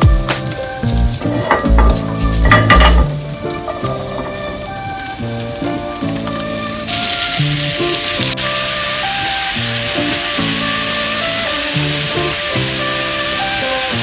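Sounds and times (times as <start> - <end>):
food sizzling in frying pan: 0.0 - 14.0
soft background music: 0.0 - 14.0.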